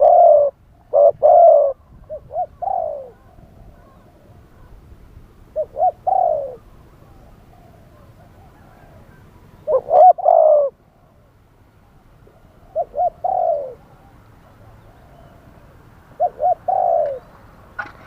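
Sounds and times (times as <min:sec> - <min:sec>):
dove cooing: 0:00.0 - 0:04.8, 0:05.5 - 0:17.4.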